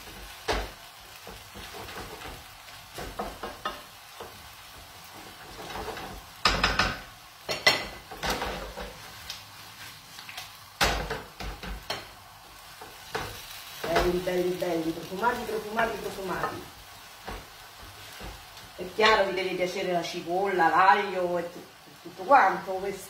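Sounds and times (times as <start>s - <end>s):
sauce sizzling in frying pan: 0.0s - 23.0s.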